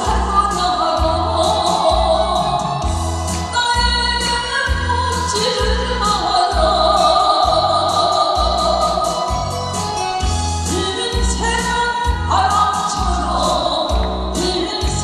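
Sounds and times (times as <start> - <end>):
woman singing into a microphone: 0.0 - 9.4, 10.6 - 15.0
backing track with steady bass beat: 0.0 - 15.0.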